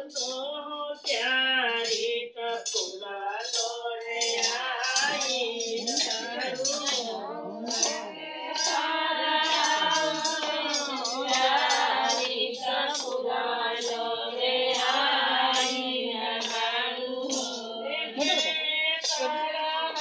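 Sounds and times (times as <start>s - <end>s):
rhythmic clapping: 0.0s - 20.0s
women singing together: 0.0s - 20.0s.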